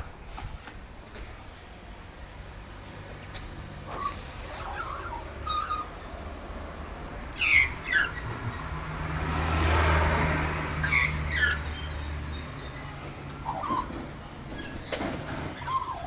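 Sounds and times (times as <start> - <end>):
road vehicle passing: 1.0 - 16.0.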